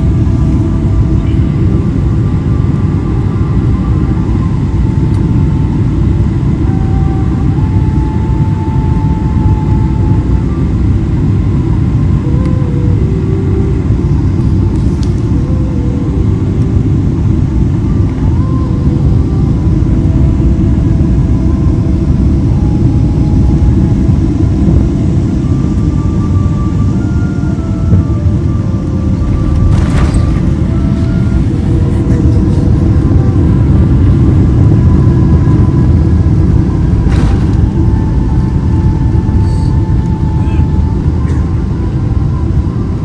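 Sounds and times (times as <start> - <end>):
jet engine rumble in cabin: 0.0 - 43.0.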